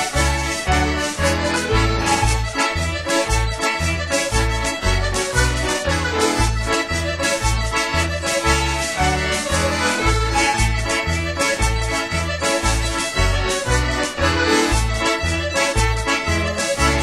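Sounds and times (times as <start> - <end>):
instrumental music with bouncing bass: 0.0 - 17.0.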